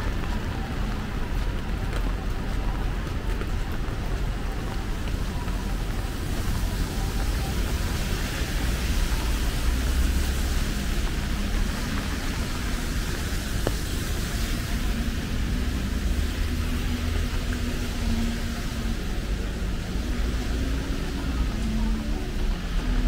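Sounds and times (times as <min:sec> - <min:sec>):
passing traffic: 0:00.0 - 0:23.0
rain hissing on wet street: 0:00.0 - 0:23.0.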